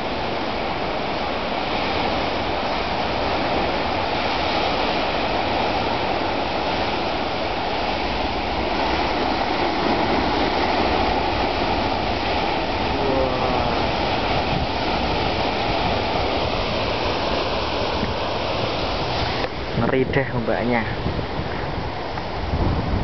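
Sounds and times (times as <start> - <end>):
waves crashing on rocks: 0.0 - 23.0.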